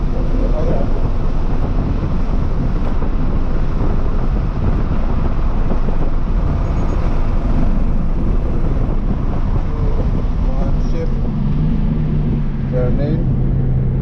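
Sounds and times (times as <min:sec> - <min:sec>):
car engine and exhaust at speed: 0:00.0 - 0:14.0
road and wind noise: 0:00.0 - 0:14.0.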